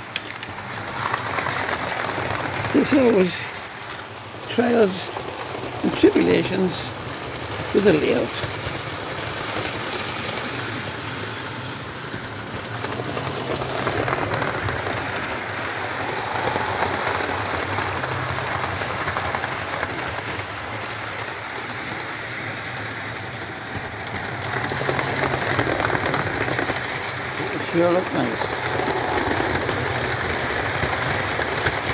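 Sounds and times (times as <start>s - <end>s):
model train running hum: 0.0s - 31.9s
wheels rattling over track: 0.0s - 31.9s.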